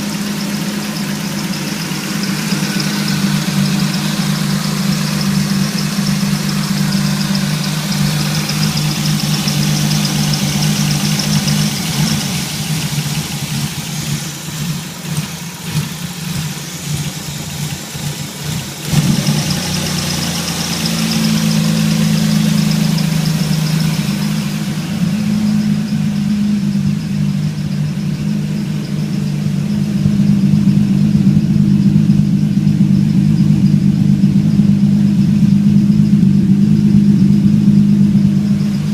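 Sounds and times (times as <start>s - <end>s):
car engine idling with misfire: 0.0s - 38.9s.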